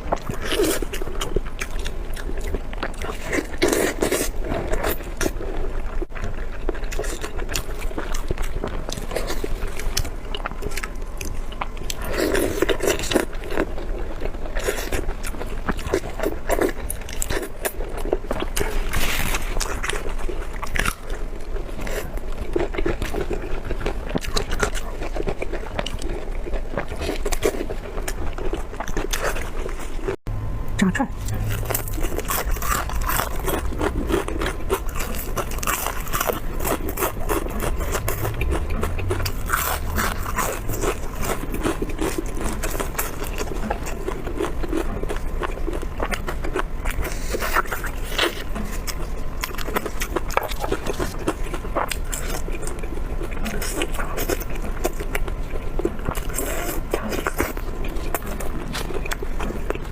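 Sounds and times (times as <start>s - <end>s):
person biting and chewing food: 0.0s - 30.2s, 31.2s - 59.9s.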